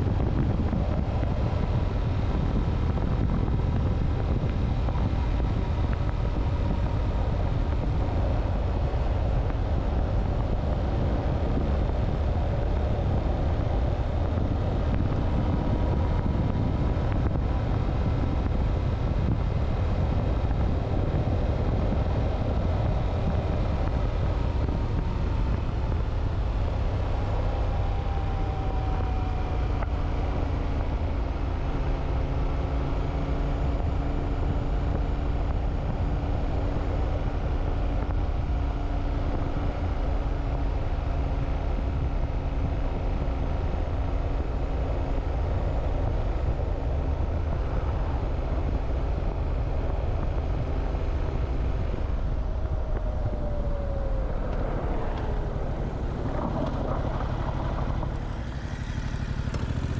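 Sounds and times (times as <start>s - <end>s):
motorcycle engine running: 0.0s - 59.9s
wind rumble: 0.0s - 59.9s.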